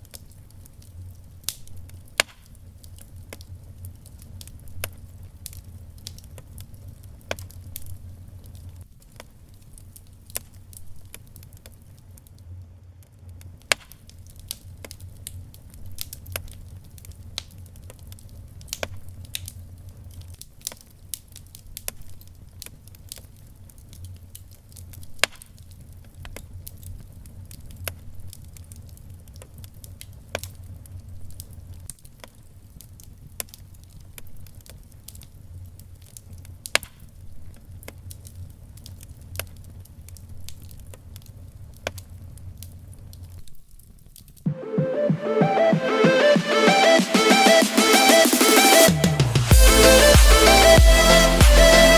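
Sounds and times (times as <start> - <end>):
wood fire crackling and popping: 0.0 - 44.4.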